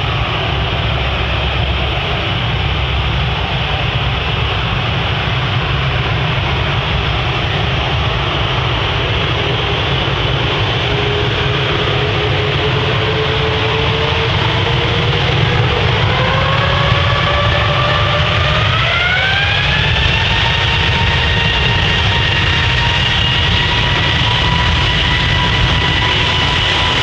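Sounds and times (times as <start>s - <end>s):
jet engines roaring: 0.0s - 27.0s
rising engine whine: 0.0s - 27.0s.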